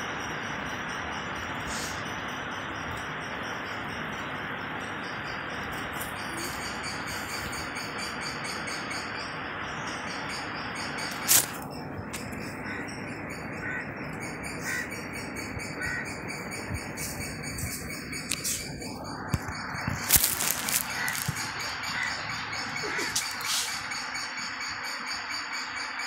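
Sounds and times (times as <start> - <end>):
steady outdoor hiss: 0.0 - 26.0
bird chirps: 0.1 - 26.0.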